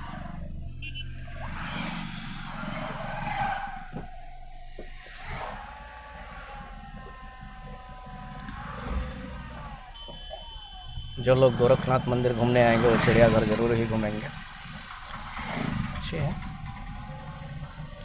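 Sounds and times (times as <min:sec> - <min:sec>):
motorcycles passing: 0:00.0 - 0:10.0, 0:10.8 - 0:18.0
road noise inside car: 0:00.0 - 0:18.0.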